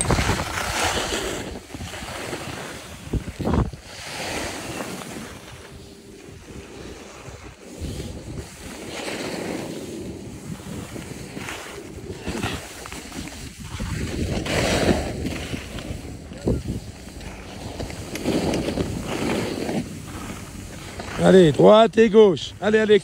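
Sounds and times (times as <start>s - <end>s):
wind rushing over microphone: 0.0s - 21.5s
skis scraping on snow: 0.0s - 23.0s.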